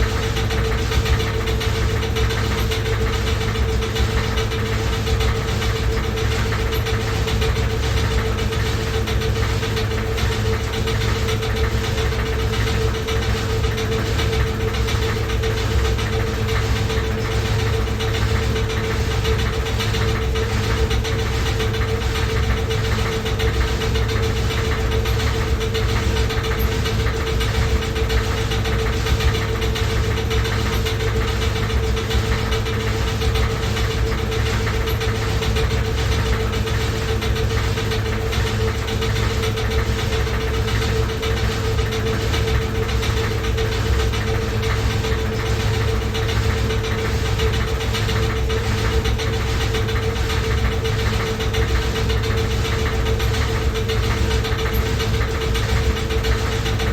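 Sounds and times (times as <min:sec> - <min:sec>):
loud washing machine running: 0:00.0 - 0:56.9.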